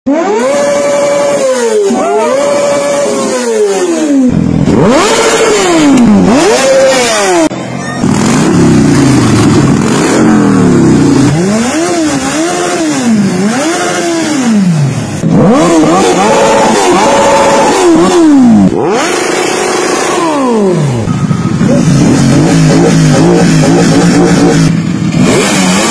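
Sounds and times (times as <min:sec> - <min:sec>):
lower motorcycle engine blipped: 0:00.1 - 0:25.9
motorcycle engine revving high: 0:00.1 - 0:25.9.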